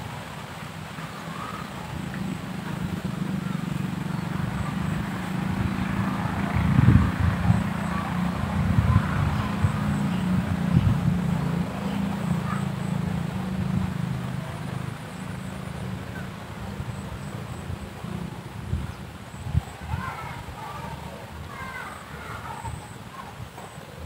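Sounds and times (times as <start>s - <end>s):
motor engine running: 1.0s - 23.8s.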